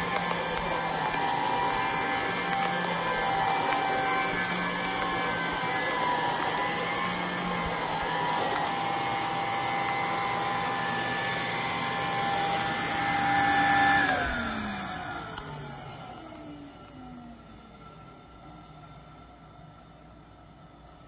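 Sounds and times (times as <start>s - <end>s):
vacuum cleaner whining: 0.0s - 21.0s.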